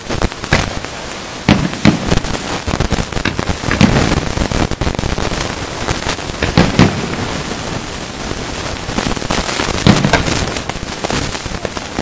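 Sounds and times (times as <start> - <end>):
firework shells bursting: 0.0 - 12.0
steady hiss: 0.0 - 12.0.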